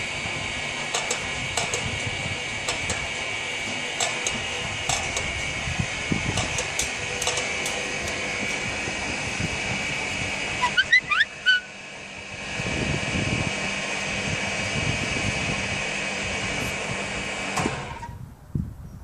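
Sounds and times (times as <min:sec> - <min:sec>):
crane machinery whirring: 0:00.0 - 0:18.3.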